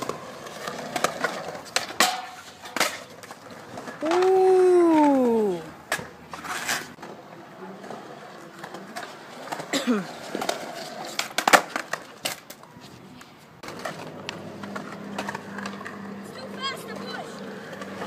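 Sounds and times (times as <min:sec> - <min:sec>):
skateboard clacks: 0:00.0 - 0:18.0
skateboard wheels rolling on concrete: 0:00.0 - 0:18.0.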